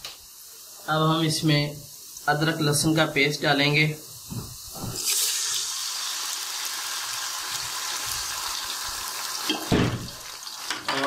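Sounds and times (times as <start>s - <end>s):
paste sizzling in hot oil: 0.1s - 11.0s.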